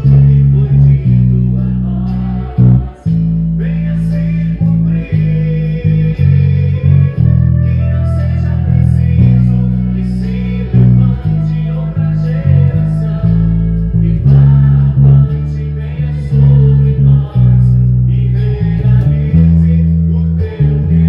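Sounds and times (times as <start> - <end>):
electric bass plucked notes: 0.0 - 21.0
recorded song with singing: 0.0 - 21.0.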